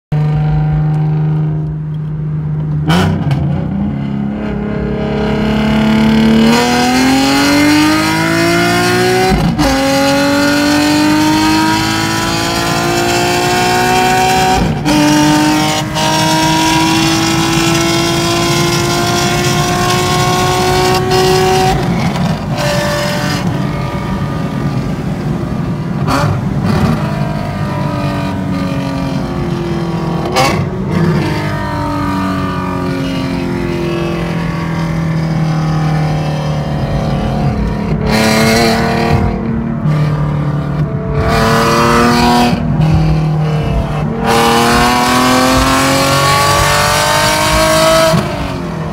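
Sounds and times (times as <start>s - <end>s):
car engine accelerating: 0.1s - 48.9s.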